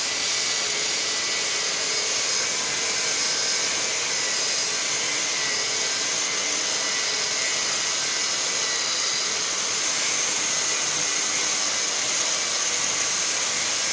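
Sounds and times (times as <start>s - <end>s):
grinder cutting steel: 0.0s - 13.9s.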